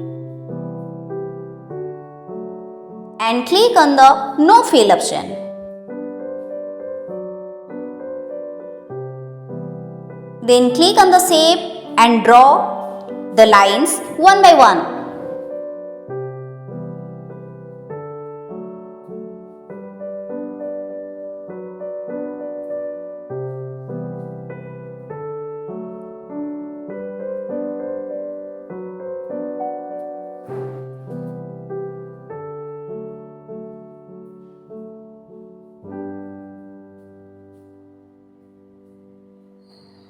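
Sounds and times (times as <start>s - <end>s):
gentle solo piano piece: 0.0s - 3.2s, 5.5s - 10.4s, 15.1s - 40.0s.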